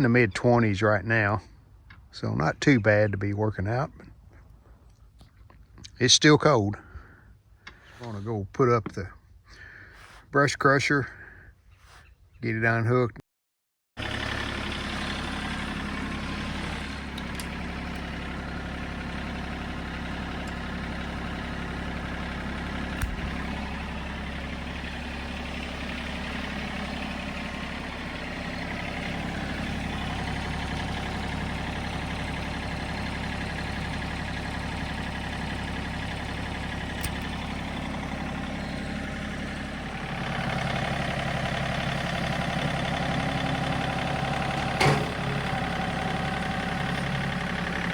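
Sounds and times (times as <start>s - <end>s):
tractor diesel engine running: 5.8s - 12.0s, 14.0s - 47.9s.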